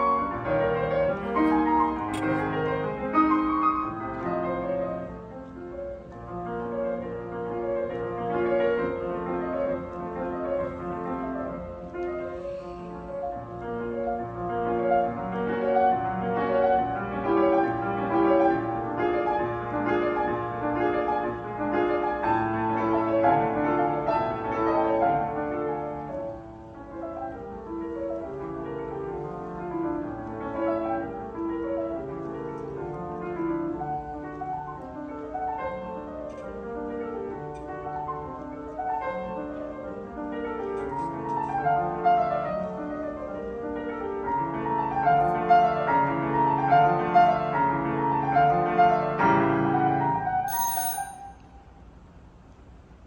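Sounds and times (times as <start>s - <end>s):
fast solo piano: 0.0s - 12.3s, 13.1s - 50.9s.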